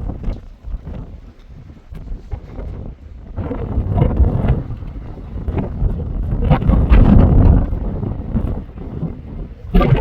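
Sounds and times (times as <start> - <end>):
strong wind gusting on microphone: 0.0 - 10.0.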